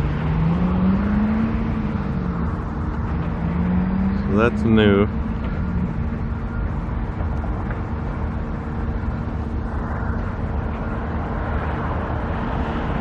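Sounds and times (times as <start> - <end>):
engine drone with low rumble: 0.0 - 13.0.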